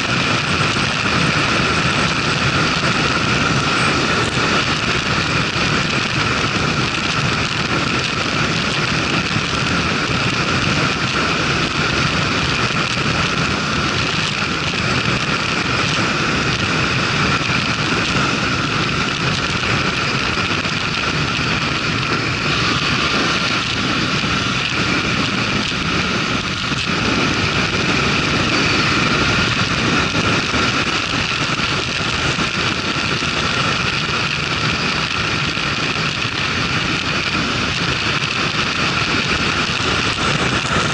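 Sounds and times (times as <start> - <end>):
motorcycle engine: 0.0 - 40.9
wind rush over microphone: 0.0 - 40.9.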